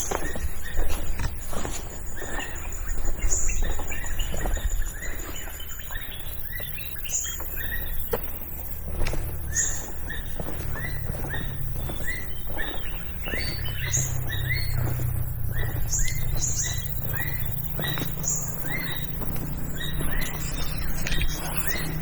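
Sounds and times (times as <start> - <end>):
bird chirping: 0.0 - 22.0
steady low rumble: 0.0 - 22.0.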